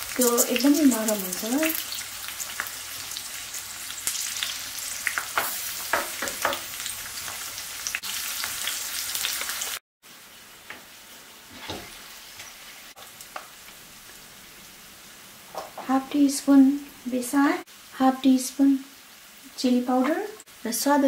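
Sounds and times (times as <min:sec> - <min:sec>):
chillies sizzling in oil: 0:00.0 - 0:21.0.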